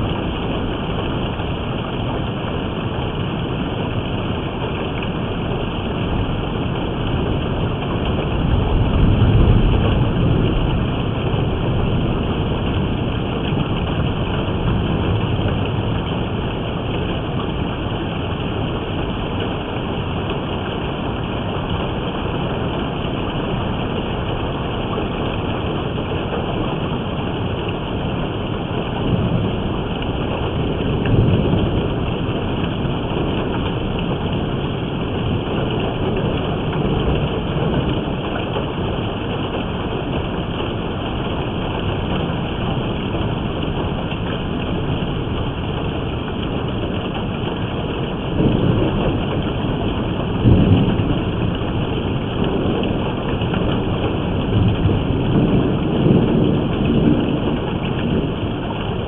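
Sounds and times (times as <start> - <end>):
heavy rain pouring: 0.0 - 59.0
thunder rumbling: 0.0 - 59.0.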